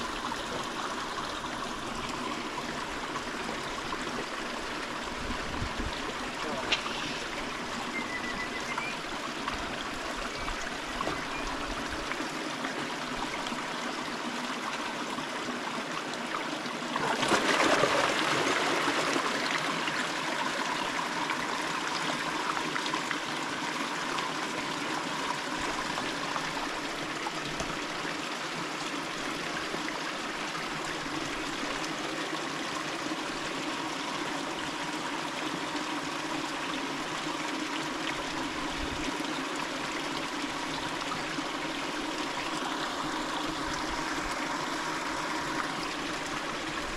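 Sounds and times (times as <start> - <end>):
river water running: 0.0 - 46.9.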